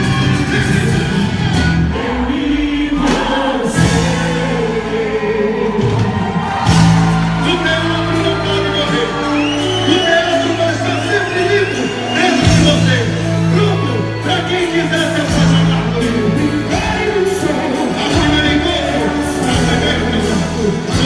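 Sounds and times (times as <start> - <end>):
folk dance music with singing: 0.0 - 21.0.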